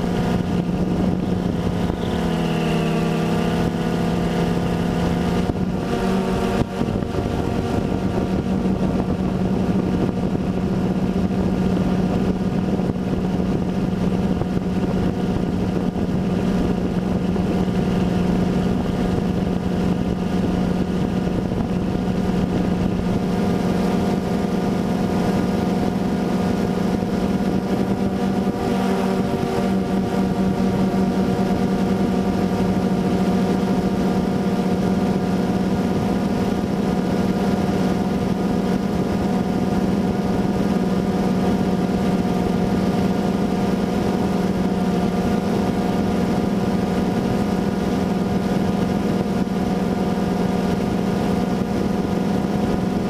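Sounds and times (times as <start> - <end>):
drone motors and propellers: 0.0 - 53.0.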